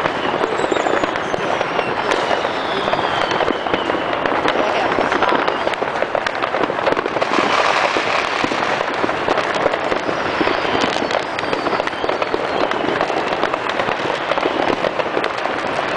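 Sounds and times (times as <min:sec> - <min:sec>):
faint firework whistles: 0:00.0 - 0:15.5
fireworks crackling and banging: 0:00.0 - 0:15.9.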